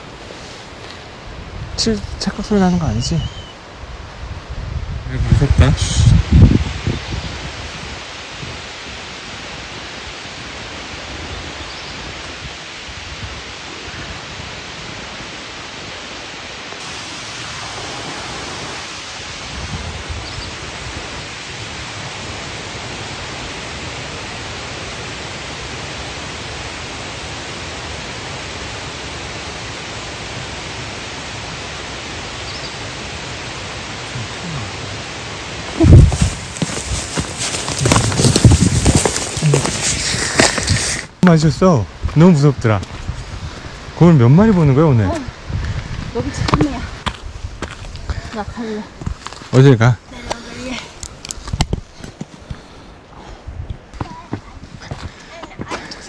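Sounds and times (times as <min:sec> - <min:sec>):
mountain stream rushing: 0:00.0 - 0:04.5, 0:05.7 - 0:56.0.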